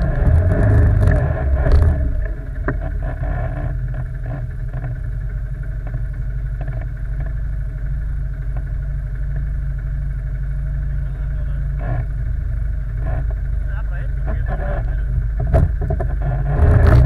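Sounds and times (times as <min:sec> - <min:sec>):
quad bike engine rumbling: 0:00.0 - 0:17.0.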